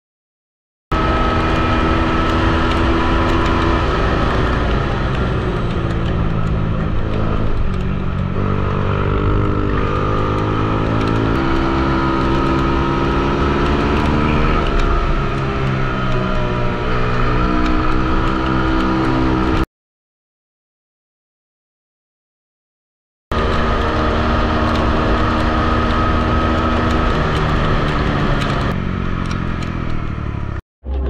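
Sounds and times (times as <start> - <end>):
minibike engine revving: 1.0 - 19.6, 23.3 - 31.0.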